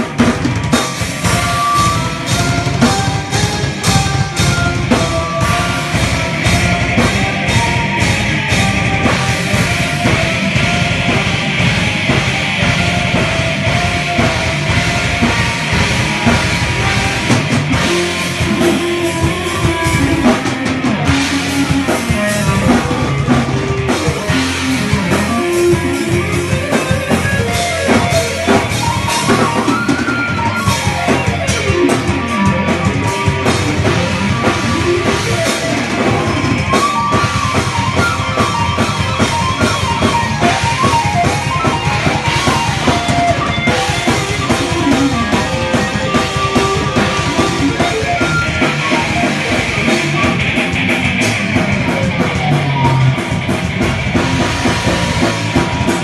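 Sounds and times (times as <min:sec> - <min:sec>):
bass guitar: 0:00.0 - 0:56.0
drum kit: 0:00.0 - 0:56.0
electric guitar: 0:00.0 - 0:56.0
keyboard melody: 0:00.0 - 0:56.0.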